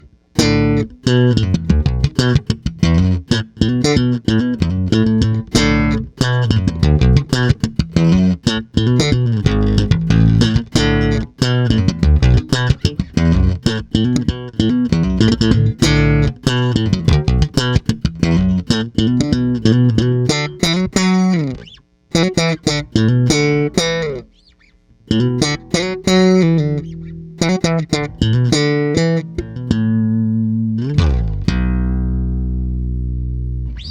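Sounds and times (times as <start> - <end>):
electric bass plucked: 0.0 - 33.9.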